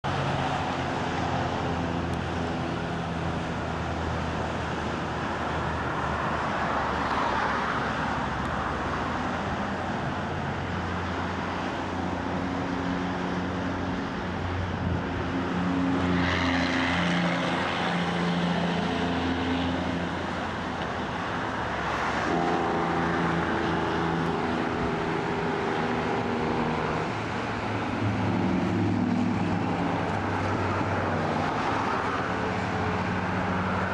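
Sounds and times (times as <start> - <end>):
tyre and road noise: 0.0 - 33.9
vehicle engines passing: 0.0 - 33.9.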